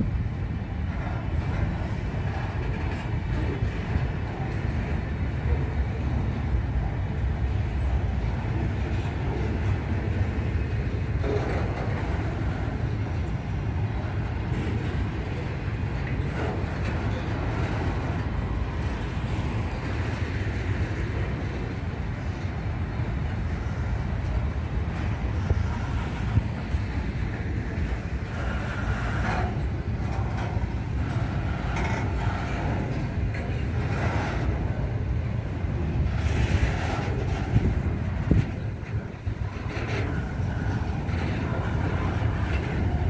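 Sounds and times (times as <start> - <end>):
freight train wheels rumbling on rail: 0.0 - 43.0.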